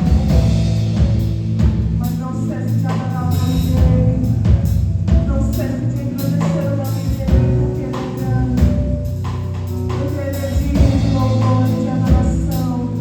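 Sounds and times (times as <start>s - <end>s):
drum kit playing: 0.0s - 13.0s
live band music: 0.0s - 13.0s.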